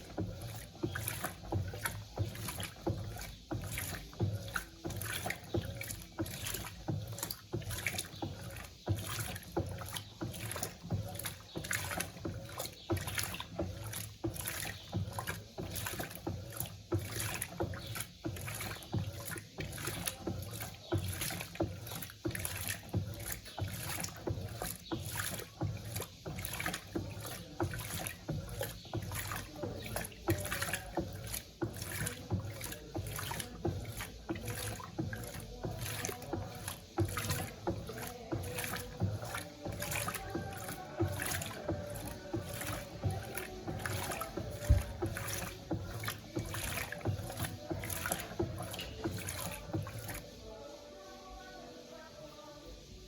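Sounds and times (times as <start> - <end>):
washing machine motor humming: 0.0 - 53.0
washing machine water sloshing: 0.0 - 53.0.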